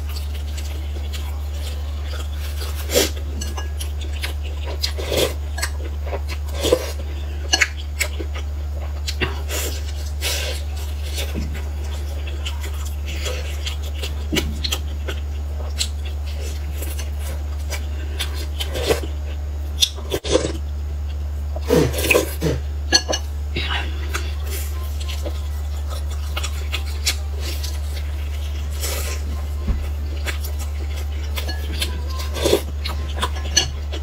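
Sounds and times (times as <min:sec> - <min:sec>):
chewing: 0:00.0 - 0:34.0
steady low hum: 0:00.0 - 0:34.0.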